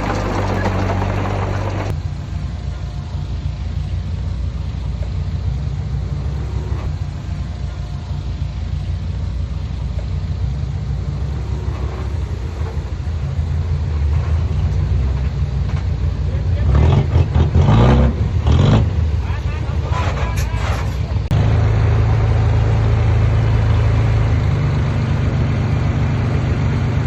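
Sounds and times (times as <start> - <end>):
diesel machinery engine rumbling: 0.0 - 27.0.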